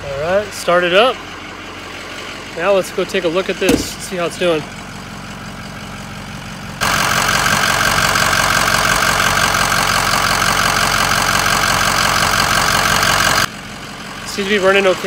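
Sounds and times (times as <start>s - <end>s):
car engine idling: 0.0s - 15.0s
engine ticking clatter: 1.2s - 15.0s.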